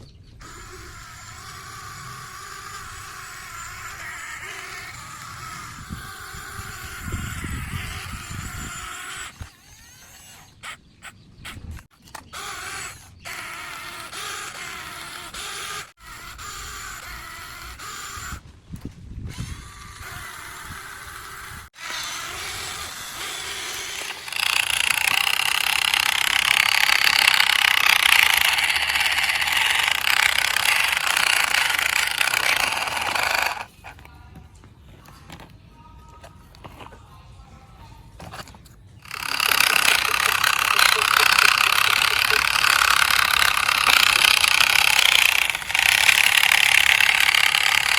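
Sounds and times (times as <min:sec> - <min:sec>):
toy motor and gears whirring: 0:00.0 - 0:34.2, 0:37.8 - 0:47.9.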